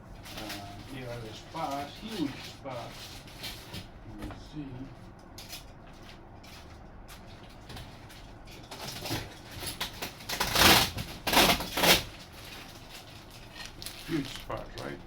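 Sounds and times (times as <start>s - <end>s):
packaging rustling and scraping: 0.1s - 3.9s, 5.4s - 15.0s.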